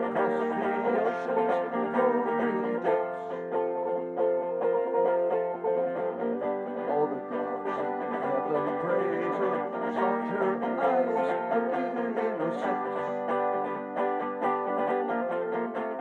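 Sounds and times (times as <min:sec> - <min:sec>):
plucked string instruments: 0:00.0 - 0:16.0.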